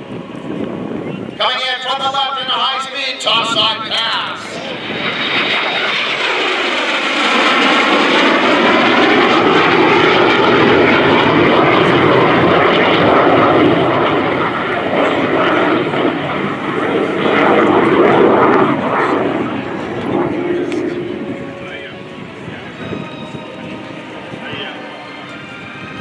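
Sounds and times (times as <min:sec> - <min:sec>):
jet fighter passing: 0:00.0 - 0:26.0.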